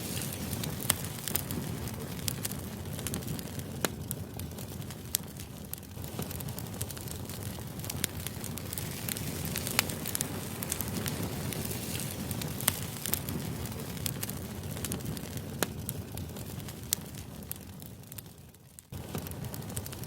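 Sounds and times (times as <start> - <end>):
crackling fire: 0.0 - 20.0.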